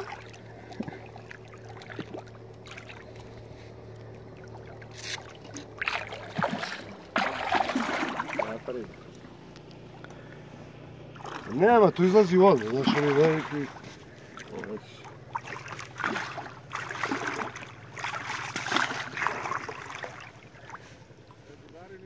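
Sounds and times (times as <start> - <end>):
fish splashing at the surface: 0.0 - 9.2, 11.1 - 20.9
low steady hum: 0.0 - 22.0.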